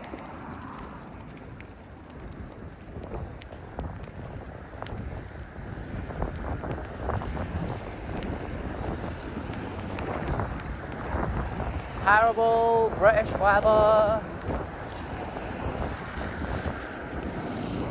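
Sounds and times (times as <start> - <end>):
tyres on wet road: 0.0 - 17.9
wind buffeting microphone: 0.0 - 17.9.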